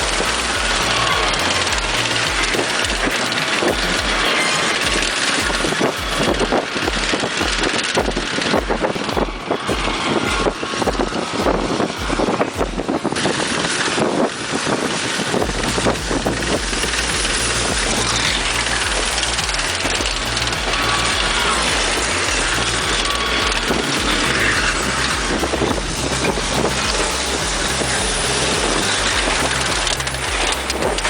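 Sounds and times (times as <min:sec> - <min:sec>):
low thumping: 0:00.0 - 0:13.0, 0:15.4 - 0:31.0
wind buffeting microphone: 0:00.0 - 0:31.0.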